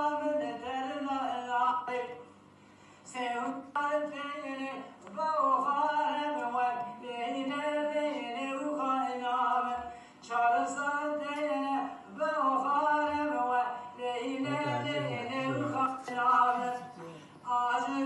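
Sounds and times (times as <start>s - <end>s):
man singing unaccompanied: 3.2s - 18.0s.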